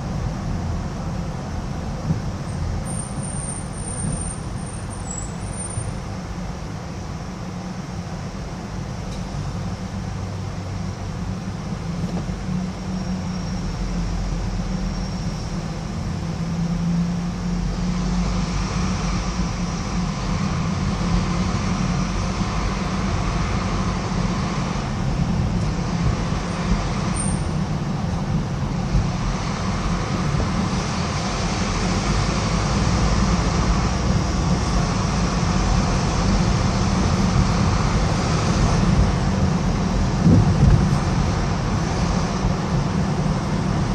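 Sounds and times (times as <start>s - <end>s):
car engine noise: 0.0s - 43.9s
road and tyre rumble: 0.0s - 43.9s.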